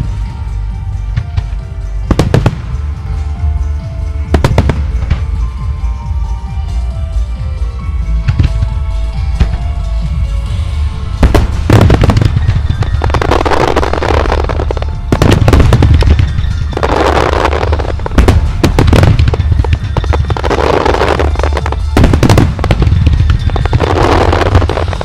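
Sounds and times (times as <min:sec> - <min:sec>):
fireworks bursting in volleys: 0:00.0 - 0:05.7, 0:08.2 - 0:25.0
fireworks show music: 0:00.0 - 0:25.0.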